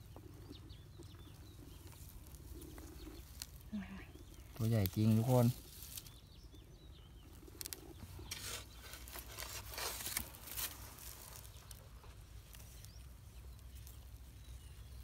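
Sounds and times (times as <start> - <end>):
dry straw rustling: 0.0 - 15.0
hand scraping dry soil: 0.0 - 15.0.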